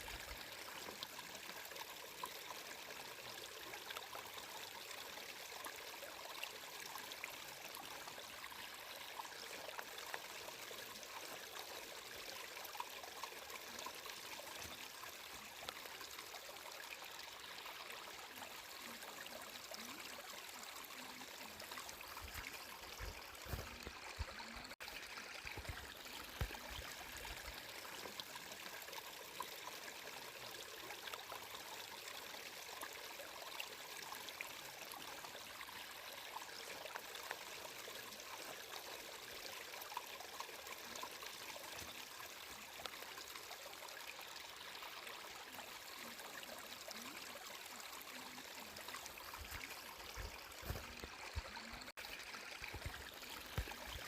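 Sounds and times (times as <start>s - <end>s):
stream water trickling: 0.0s - 54.0s.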